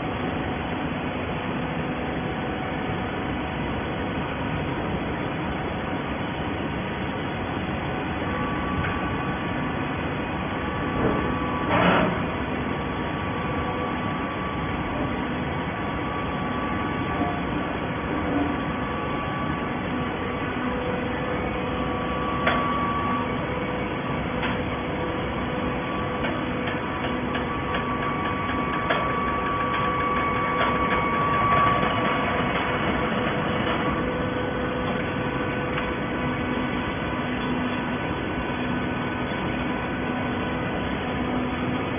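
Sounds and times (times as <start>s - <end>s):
baling machinery humming: 0.0s - 41.9s.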